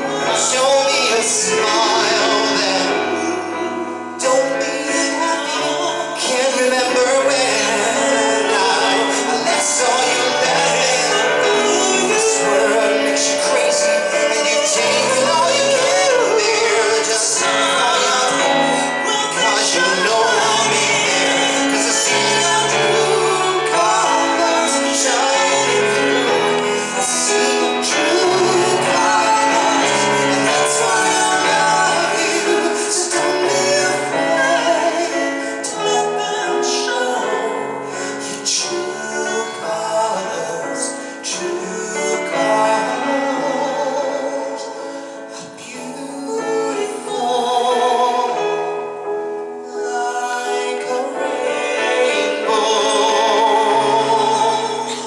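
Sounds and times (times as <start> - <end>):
instrumental accompaniment: 0.0 - 45.7
people singing slow song: 0.0 - 55.0.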